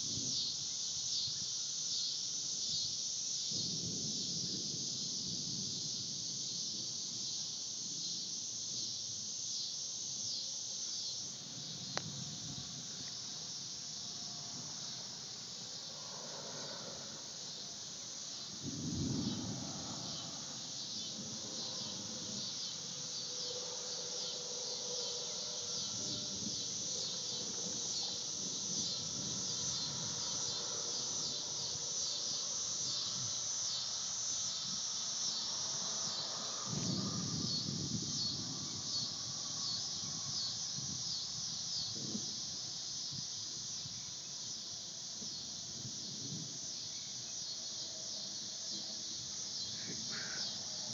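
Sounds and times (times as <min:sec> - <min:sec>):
insect chorus droning: 0:00.0 - 0:50.9.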